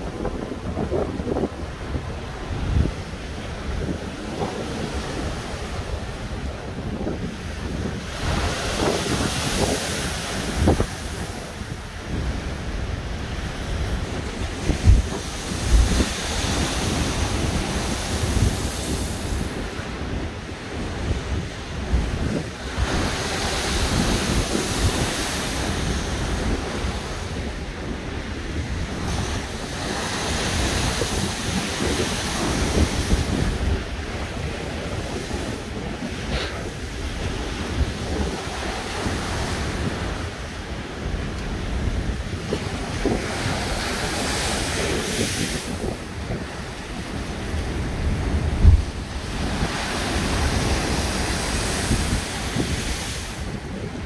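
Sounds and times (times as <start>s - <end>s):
surf and spray hissing: 0.0s - 54.0s
waves crashing: 0.0s - 54.0s
wind buffeting microphone: 0.0s - 54.0s.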